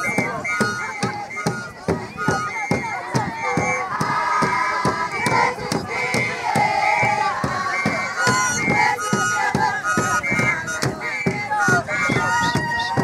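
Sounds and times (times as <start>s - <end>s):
sharp percussive dance beats: 0.0s - 13.0s
women singing and calling out: 0.0s - 13.0s.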